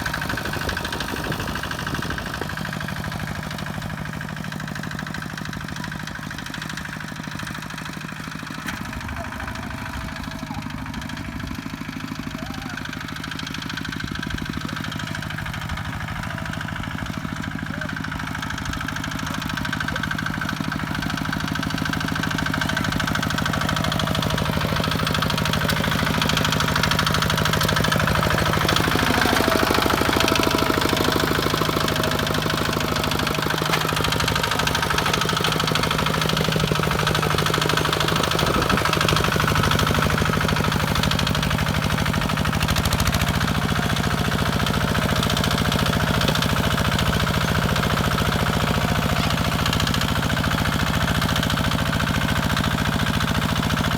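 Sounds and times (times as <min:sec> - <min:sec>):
diesel engine thudding: 0:00.0 - 0:12.4, 0:13.0 - 0:53.9.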